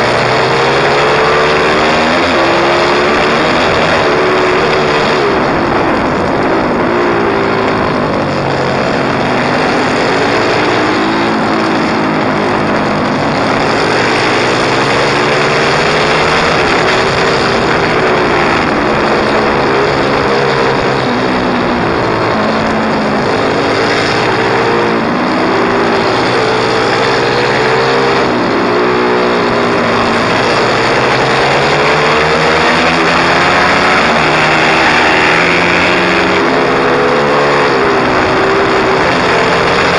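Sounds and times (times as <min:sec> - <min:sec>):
motorbike engine revving: 0:00.0 - 0:39.9
rush of noise: 0:00.0 - 0:39.9.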